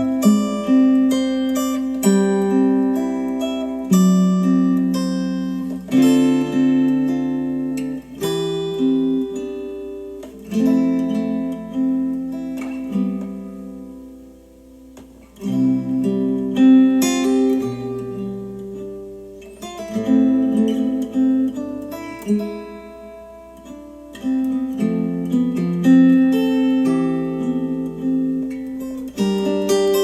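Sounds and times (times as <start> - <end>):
acoustic guitar chords strummed: 0.0 - 30.0.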